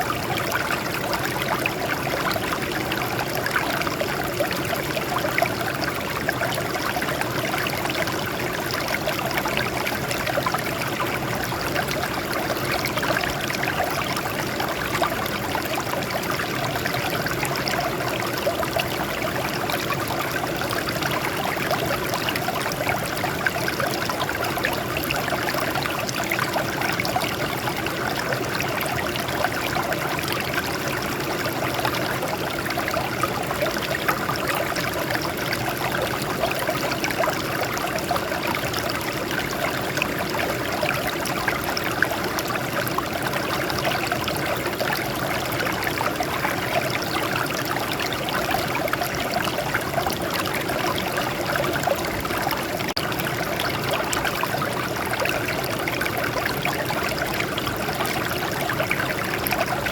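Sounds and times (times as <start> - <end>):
stream water flowing over rocks: 0.0 - 59.9.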